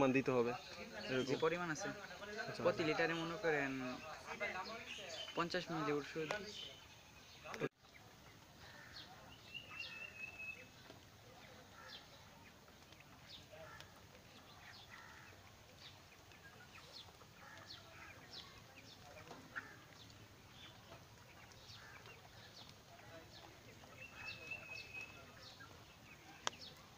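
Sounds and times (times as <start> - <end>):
chickens chirping and peeping: 0.5 - 26.9.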